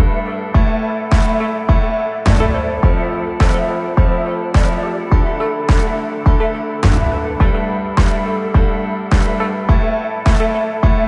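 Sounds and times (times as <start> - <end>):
held chords: 0.0 - 11.0
kick drum: 0.0 - 11.0.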